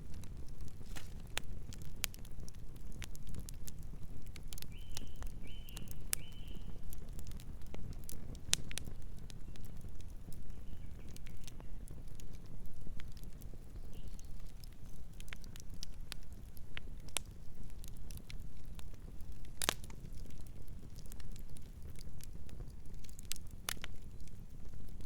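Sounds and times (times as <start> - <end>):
campfire crackling and popping: 0.0 - 25.0
low fire rumble: 0.0 - 25.0.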